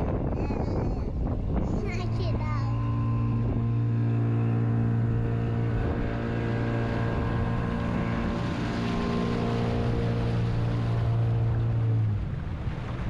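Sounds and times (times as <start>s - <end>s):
outboard motor humming: 0.0s - 13.0s
water rushing past hull: 0.0s - 13.0s.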